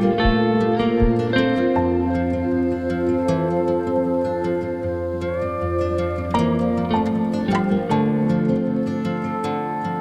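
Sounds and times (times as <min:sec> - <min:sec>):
plucked-string background music: 0:00.0 - 0:10.0.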